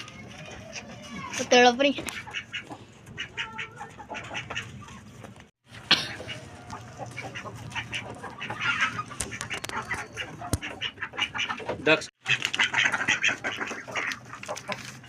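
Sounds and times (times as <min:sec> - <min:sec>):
chickens clucking: 0:00.0 - 0:15.0
ducks quacking: 0:00.4 - 0:15.0.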